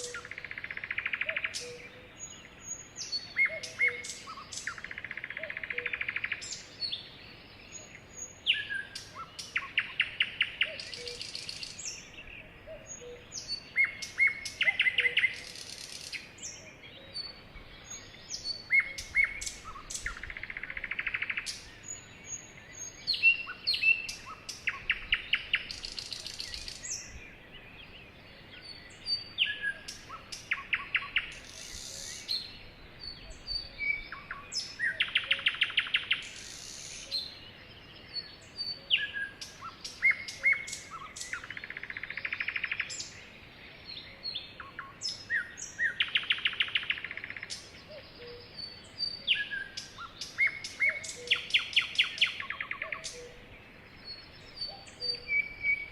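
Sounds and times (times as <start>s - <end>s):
sparrows chirping and trilling: 0.0s - 55.9s.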